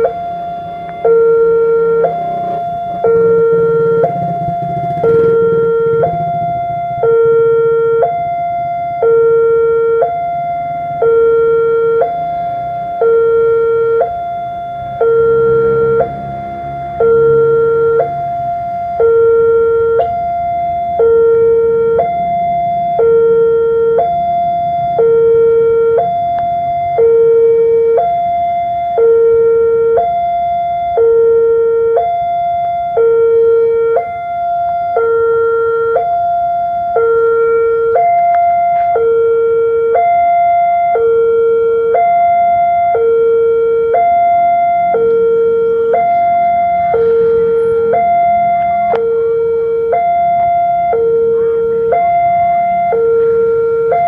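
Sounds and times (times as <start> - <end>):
level crossing two-tone alarm: 0.0 - 54.0.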